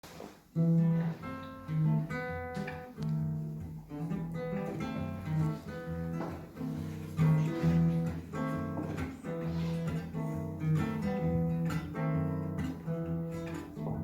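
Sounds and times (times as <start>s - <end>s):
acoustic guitar playing chords: 0.0s - 14.0s.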